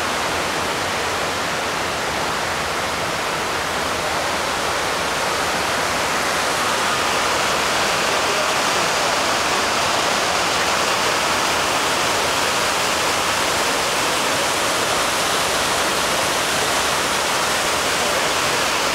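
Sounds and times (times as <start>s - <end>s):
water cascading down waterfall: 0.0s - 18.9s.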